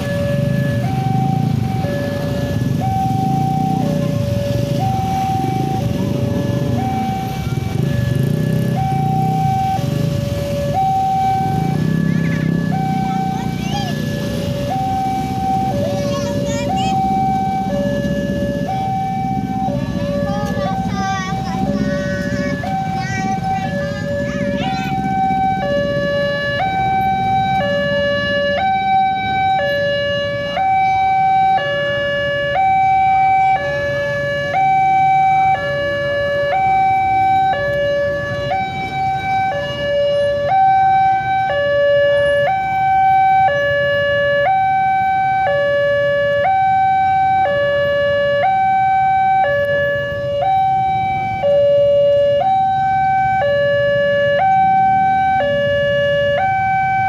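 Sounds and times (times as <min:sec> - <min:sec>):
low rumble of traffic: 0:00.0 - 0:57.0.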